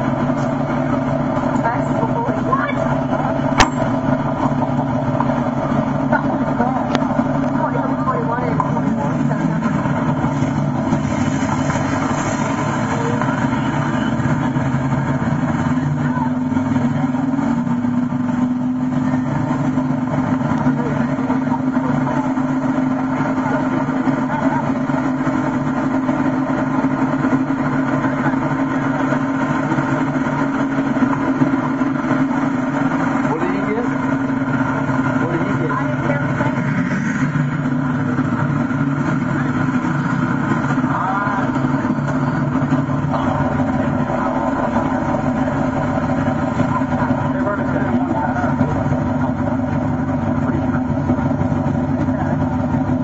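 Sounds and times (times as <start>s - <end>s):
diesel engine idling: 0.0s - 53.0s.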